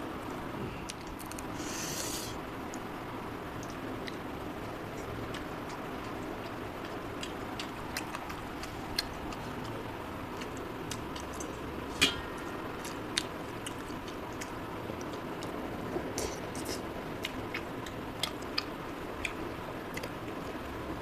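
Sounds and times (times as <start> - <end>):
steady background noise: 0.0 - 21.0
soft chewing: 0.2 - 21.0.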